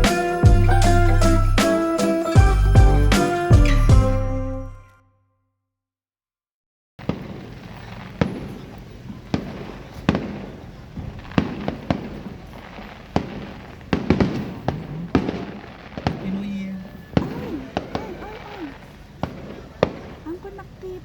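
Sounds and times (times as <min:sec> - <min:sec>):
fireworks bangs: 0:00.0 - 0:03.4, 0:07.0 - 0:21.0.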